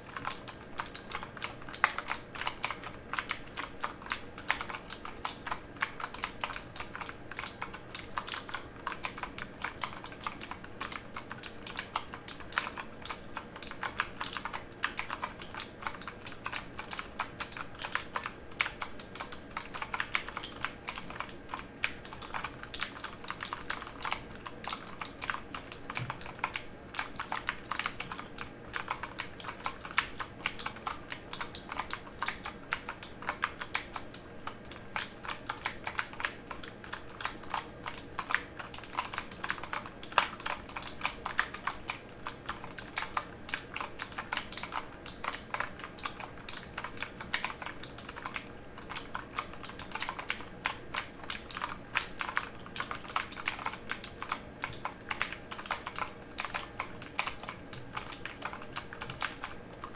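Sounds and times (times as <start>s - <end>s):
typing on mechanical keyboard: 0.0s - 59.9s.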